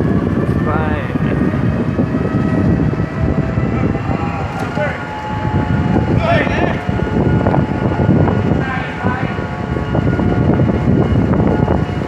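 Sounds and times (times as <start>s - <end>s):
city street rumble: 0.0s - 12.0s
indistinct voices: 0.4s - 12.0s.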